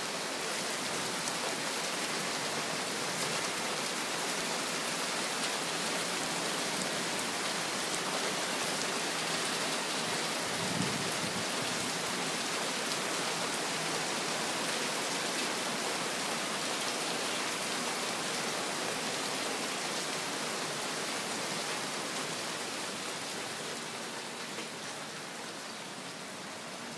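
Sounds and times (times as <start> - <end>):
heavy rain on patio and plants: 0.0 - 26.9.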